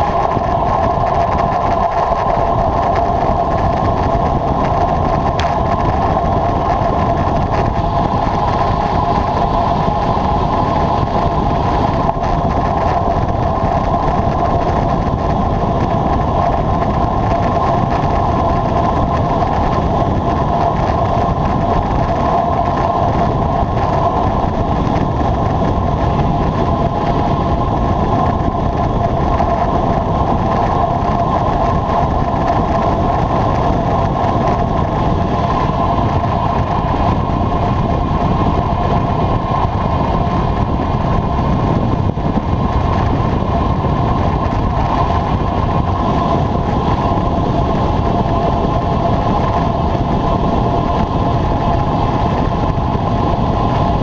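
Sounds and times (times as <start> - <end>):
bicycle tyre and road noise: 0.0 - 54.0
wind on microphone: 0.0 - 54.0.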